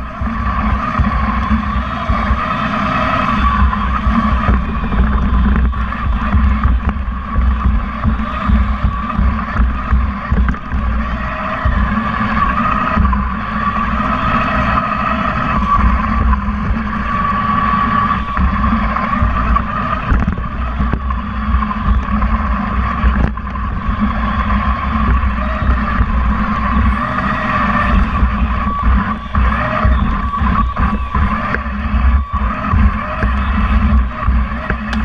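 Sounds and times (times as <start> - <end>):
electric motors whirring: 0.0 - 35.0
low rumble: 0.0 - 35.0.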